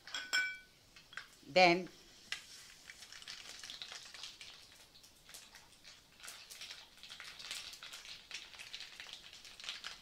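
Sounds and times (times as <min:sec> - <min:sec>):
seeds crackling in hot oil: 0:00.9 - 0:10.0.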